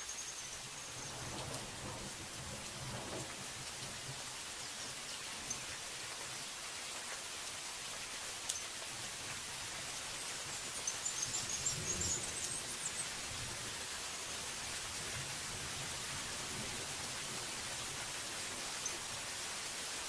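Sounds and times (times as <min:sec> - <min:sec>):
heavy rain on trees: 0:00.0 - 0:20.0.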